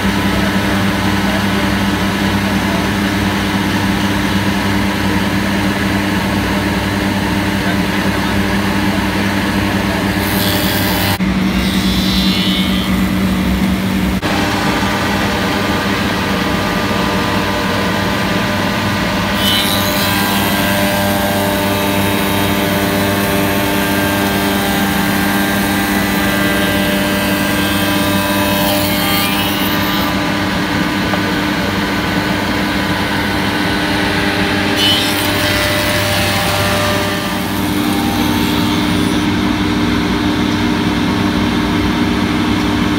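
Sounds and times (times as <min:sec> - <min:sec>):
woodworking machine whine and drone: 0:00.0 - 0:42.9.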